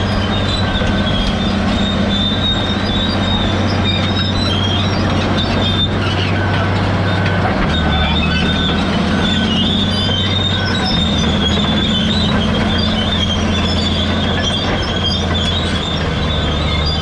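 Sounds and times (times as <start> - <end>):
diesel engine running: 0.0 - 17.0
metallic squeal of steel tracks: 0.0 - 17.0.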